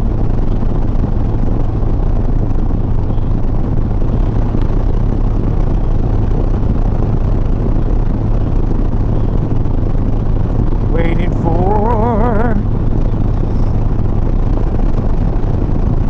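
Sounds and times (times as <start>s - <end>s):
motorcycle engine droning: 0.0s - 16.0s
rushing wind and road noise: 0.0s - 16.0s.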